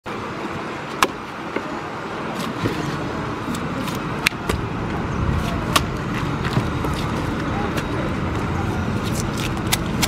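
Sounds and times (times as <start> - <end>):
outdoor street noise: 0.0 - 10.0.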